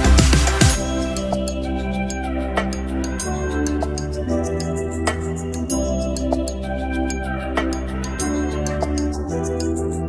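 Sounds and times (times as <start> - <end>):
soft chords over light beat: 0.0 - 10.0.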